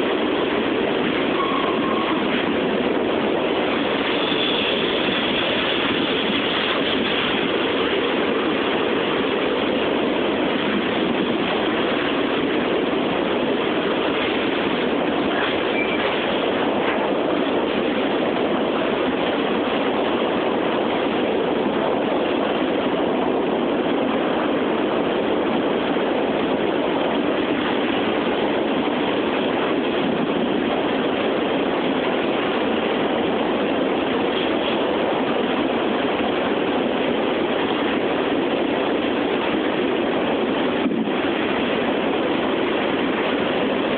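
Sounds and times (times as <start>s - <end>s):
freight train wheels on rail: 0.0s - 43.9s.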